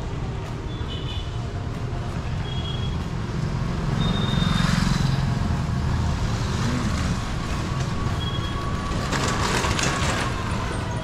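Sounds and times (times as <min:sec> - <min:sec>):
road traffic rumbling: 0:00.0 - 0:11.0.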